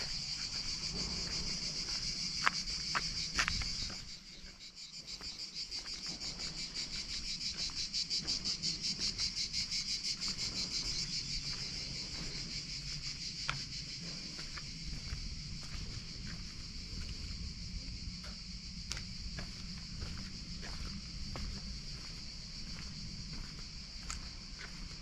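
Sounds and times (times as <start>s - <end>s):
cicadas singing: 0.0s - 25.0s.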